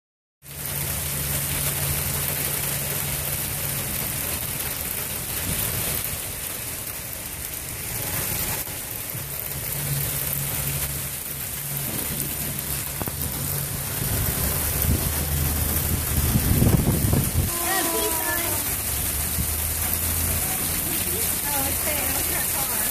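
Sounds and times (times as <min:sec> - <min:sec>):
heavy rain on pavement and cars: 0:00.4 - 0:22.9.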